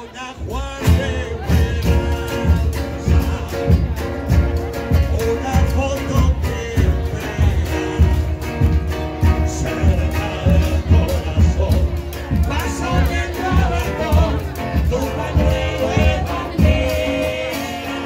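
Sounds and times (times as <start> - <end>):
person singing: 0.0 - 18.0
low bass drums beating: 0.3 - 18.0.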